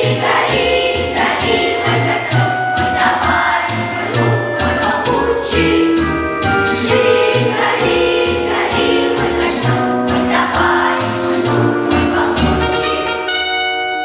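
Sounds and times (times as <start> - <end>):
choir singing in unison: 0.0 - 13.3
backing track with steady beat: 0.0 - 13.9.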